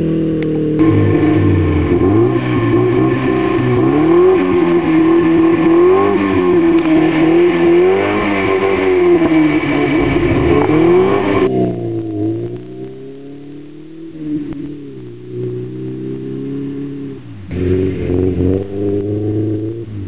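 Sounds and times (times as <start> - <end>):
car engine revving under load: 0.0 - 20.0.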